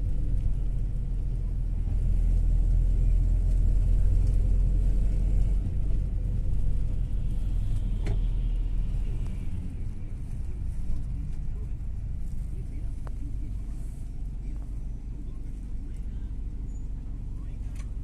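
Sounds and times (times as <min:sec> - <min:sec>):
vehicle road rumble: 0:00.0 - 0:18.0.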